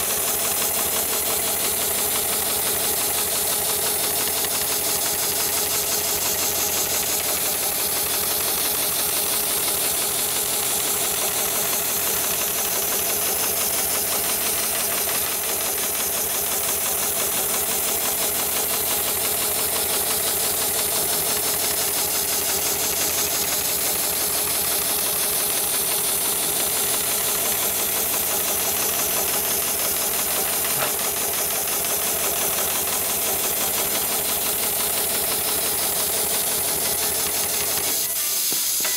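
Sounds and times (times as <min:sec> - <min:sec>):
stitching machine rattling: 0:00.0 - 0:38.9.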